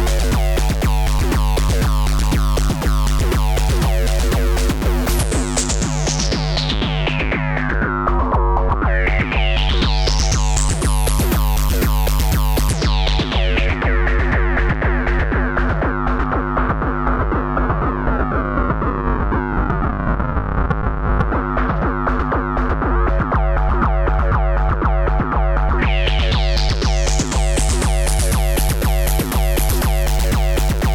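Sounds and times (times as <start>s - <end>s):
bit-crushed electronic beat loop: 0.0s - 30.9s.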